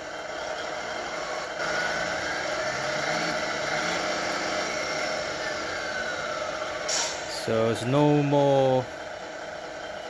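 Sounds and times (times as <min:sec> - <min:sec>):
simulated diesel engine from speaker: 0:00.0 - 0:10.0.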